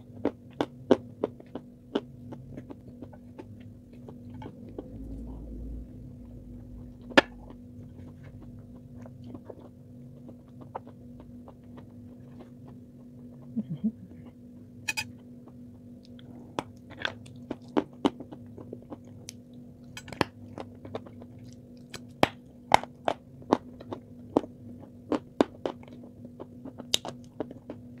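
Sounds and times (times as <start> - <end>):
steady low hum: 0.0 - 28.0
chewing with wet mouth clicks: 0.2 - 5.0, 7.0 - 13.6, 15.5 - 28.0.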